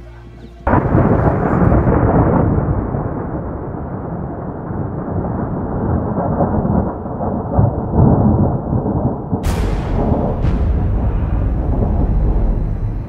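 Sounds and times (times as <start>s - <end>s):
rolling thunder rumble: 0.6s - 13.0s
sharp thunder crack: 0.7s - 13.0s.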